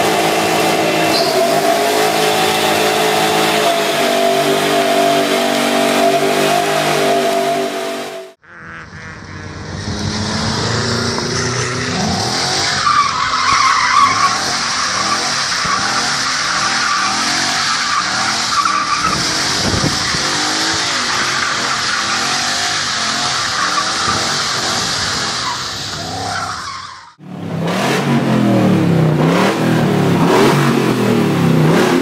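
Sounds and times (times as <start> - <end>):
tyres screeching: 0.0 - 8.4, 9.1 - 27.2
engine revving: 0.0 - 26.4, 27.1 - 32.0.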